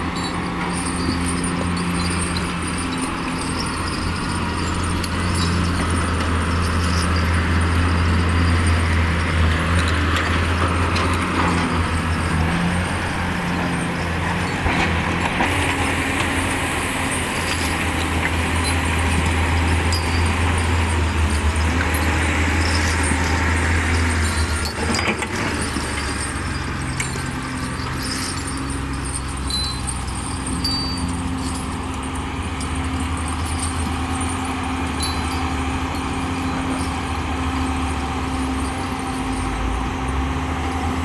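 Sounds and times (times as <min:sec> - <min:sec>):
heavy machinery diesel engine: 0:00.0 - 0:41.0
light metallic clinks: 0:00.0 - 0:41.0.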